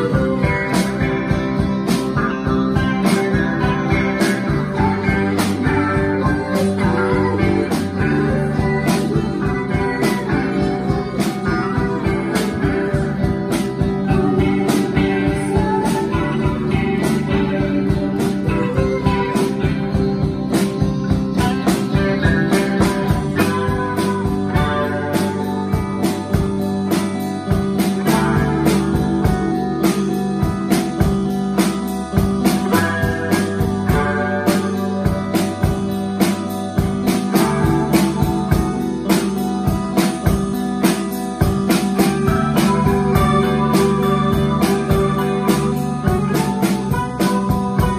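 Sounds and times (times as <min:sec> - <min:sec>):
drum kit beat: 0:00.0 - 0:47.9
electric guitar chords: 0:00.0 - 0:47.9.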